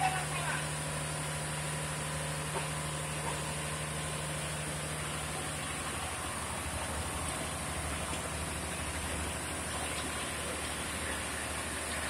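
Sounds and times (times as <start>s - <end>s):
mill machinery humming: 0.0s - 12.0s.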